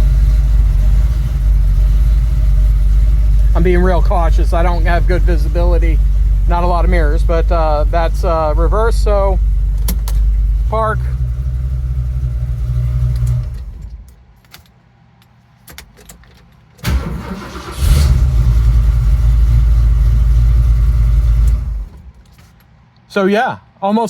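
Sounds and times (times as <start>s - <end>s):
engine cranking and starting: 0.0s - 14.1s, 16.2s - 22.4s
car engine idling: 0.0s - 14.4s, 16.2s - 22.4s.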